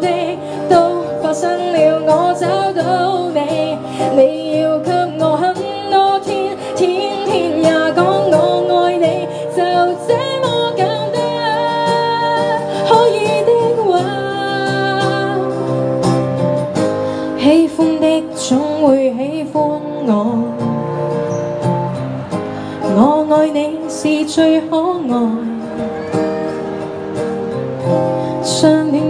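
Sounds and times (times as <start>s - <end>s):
woman singing into a microphone: 0.0s - 21.2s, 22.6s - 26.6s, 27.9s - 29.0s
acoustic guitar strumming: 0.0s - 29.0s.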